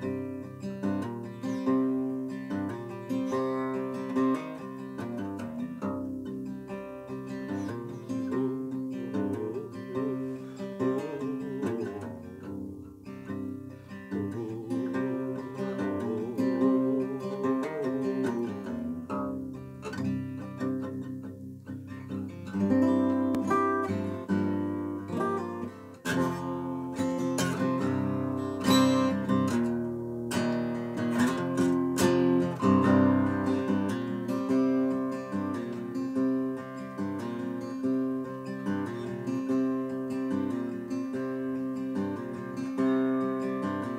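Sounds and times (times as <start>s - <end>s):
acoustic guitar: 0.0s - 43.9s.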